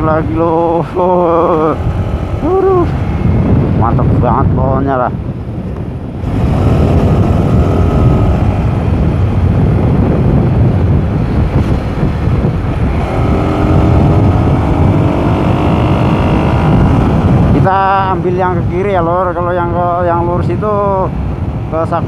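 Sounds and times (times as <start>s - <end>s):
motorcycle engine at speed: 0.0s - 22.0s
wind rumble on microphone: 0.0s - 22.0s.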